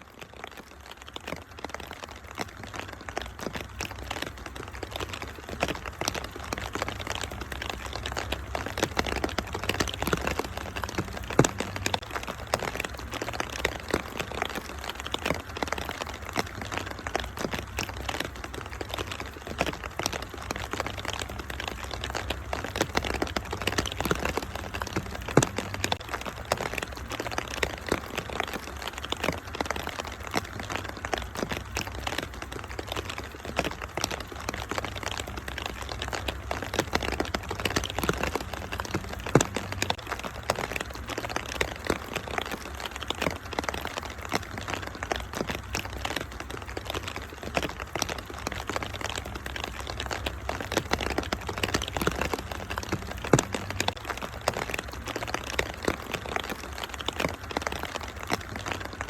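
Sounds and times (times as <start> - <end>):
rain hissing: 0.0 - 59.0
wood fire crackling: 0.0 - 59.0.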